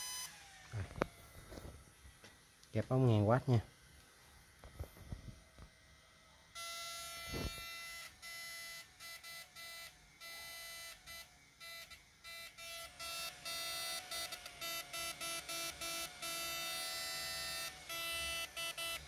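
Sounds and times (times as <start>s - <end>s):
inverter high-pitched buzz: 0.0s - 19.0s.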